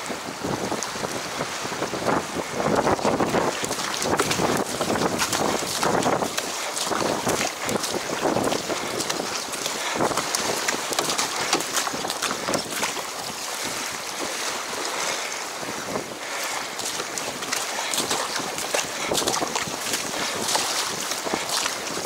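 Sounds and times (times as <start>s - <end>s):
water splashing against hull: 0.0s - 22.0s
wind buffeting microphone: 0.0s - 22.0s.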